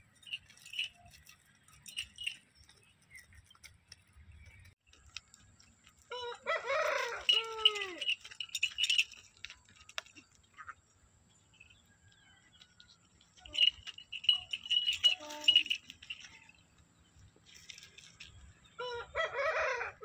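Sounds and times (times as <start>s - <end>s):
collar fittings jingling: 0.0s - 18.8s.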